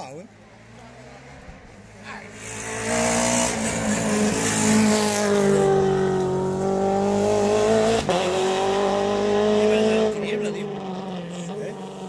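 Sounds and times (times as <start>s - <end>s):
rally car passing at speed: 0.3s - 12.0s.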